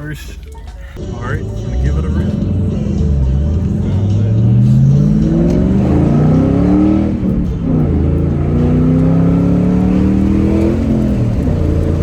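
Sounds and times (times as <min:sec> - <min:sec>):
car engine accelerating hard: 0:01.7 - 0:12.0.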